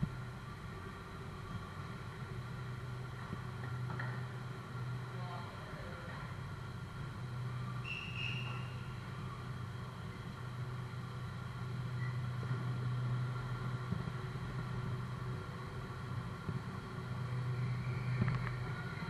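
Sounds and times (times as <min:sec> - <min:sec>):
cars driving slowly: 0:00.0 - 0:19.0.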